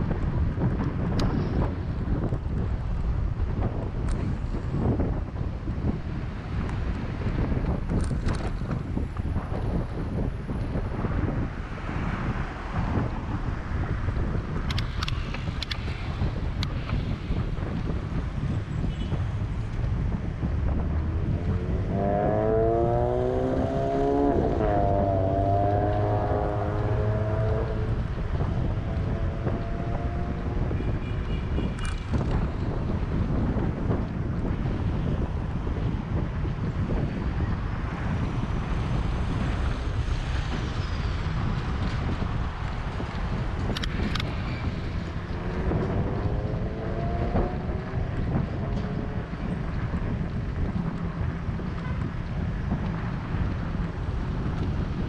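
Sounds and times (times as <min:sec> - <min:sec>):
wind rumbling on microphone: 0:00.0 - 0:55.0
motor vehicle engine: 0:05.5 - 0:55.0.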